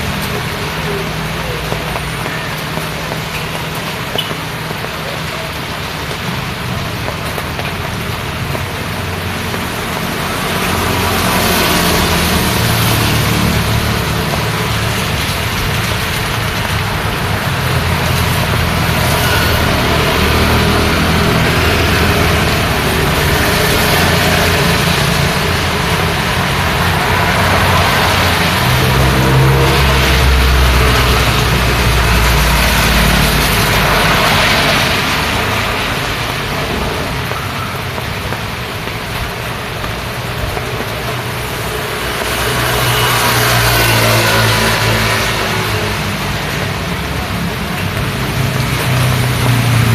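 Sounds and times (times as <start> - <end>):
vehicles passing on wet road: 0.0 - 49.9.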